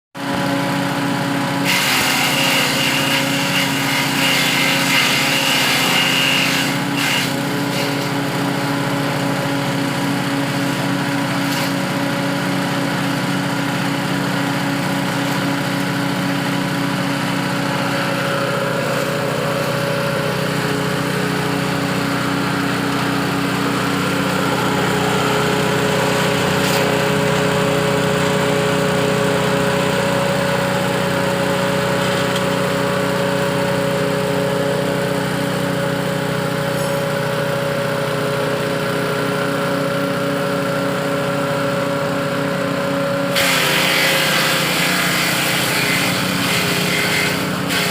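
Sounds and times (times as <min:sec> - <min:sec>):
grass chopper machine running: 0:00.2 - 0:47.9.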